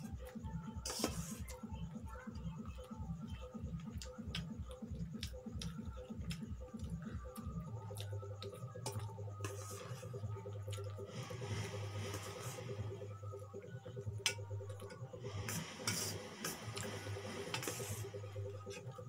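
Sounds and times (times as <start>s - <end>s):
low pulsing beat: 0.0s - 19.0s
steady low hum: 1.5s - 19.0s.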